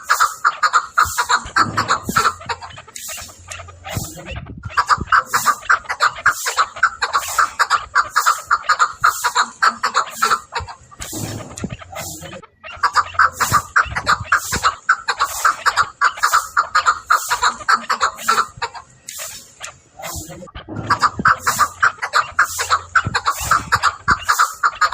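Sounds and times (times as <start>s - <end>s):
partridge clucking calls: 0.0s - 24.9s.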